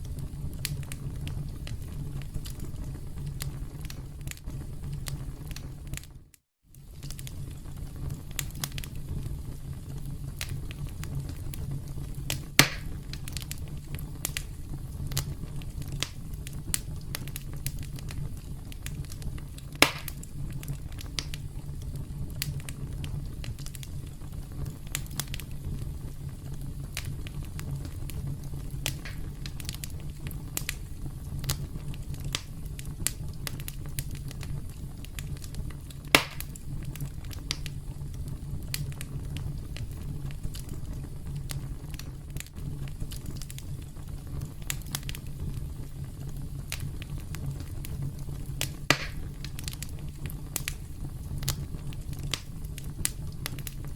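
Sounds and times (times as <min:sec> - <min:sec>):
campfire crackling: 0:00.0 - 0:53.9
loud fire pops: 0:00.0 - 0:53.9.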